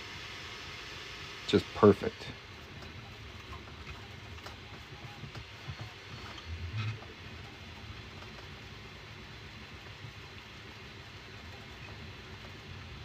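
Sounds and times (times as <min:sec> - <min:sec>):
printer motors and fans humming: 0:00.0 - 0:13.0.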